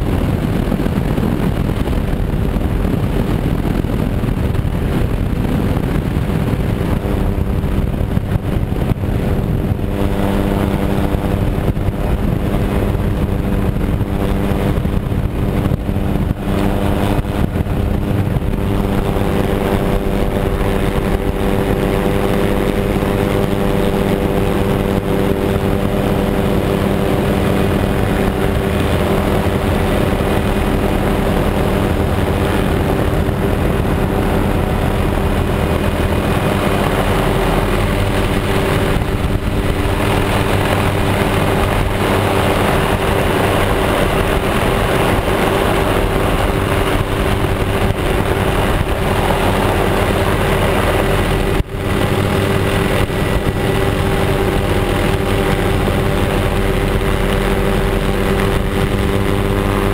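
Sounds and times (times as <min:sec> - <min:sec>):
helicopter engine and rotor drone: 0:00.0 - 0:59.9
wind rushing on microphone: 0:00.0 - 0:59.9.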